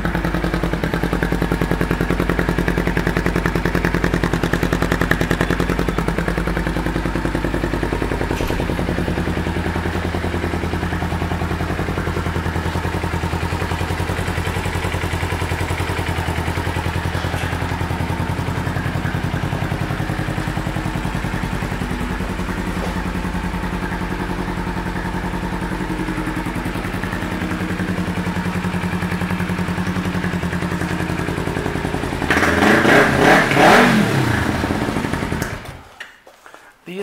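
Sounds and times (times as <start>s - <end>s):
motorcycle engine idling: 0.0s - 35.9s
motorcycle engine revving: 0.0s - 35.9s.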